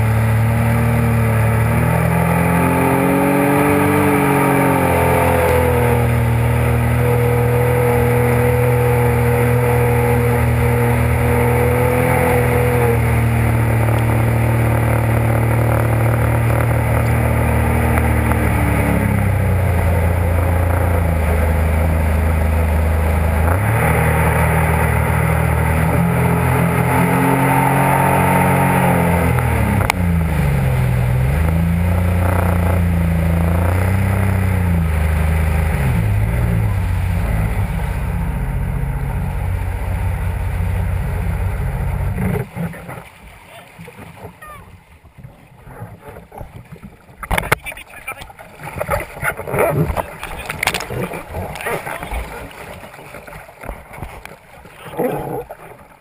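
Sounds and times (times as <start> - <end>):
jet ski engine running: 0.0 - 56.0
water rushing from wake: 0.0 - 56.0.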